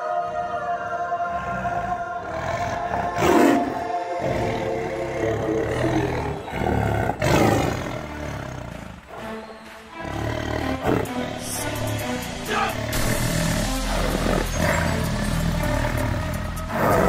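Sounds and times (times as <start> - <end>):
soundtrack music: 0.0 - 17.0
big cat roaring: 0.2 - 9.3, 10.0 - 17.0.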